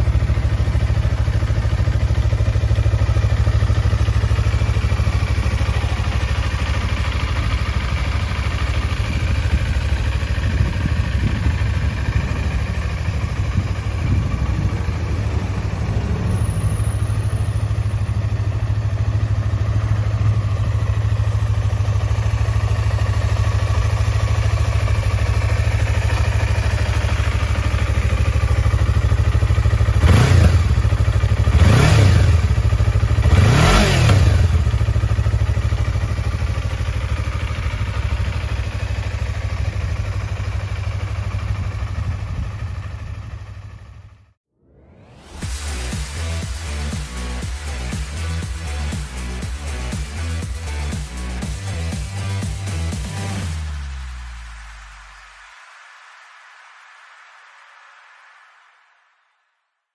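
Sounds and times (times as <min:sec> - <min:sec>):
motorcycle engine idling and revving: 0:00.0 - 0:55.2.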